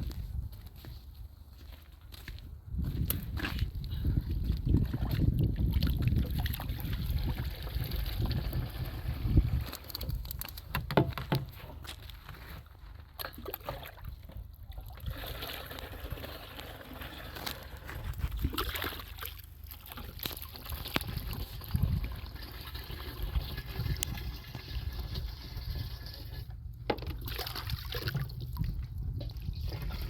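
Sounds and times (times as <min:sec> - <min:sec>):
water splashing and trickling: 0:03.2 - 0:30.0.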